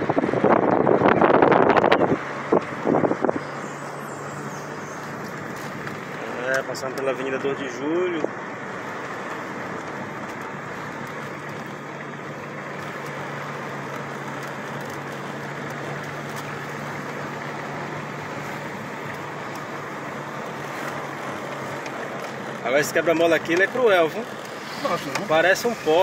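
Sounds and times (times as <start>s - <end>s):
low engine hum: 0.0s - 26.0s
road rush inside car: 0.0s - 26.0s.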